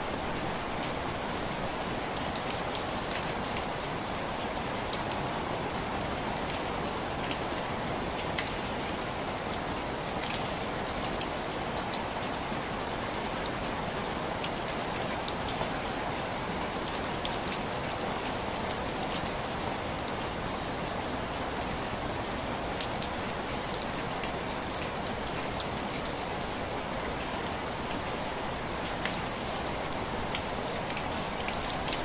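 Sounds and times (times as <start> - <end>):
rain pattering on window glass: 0.2 - 32.0.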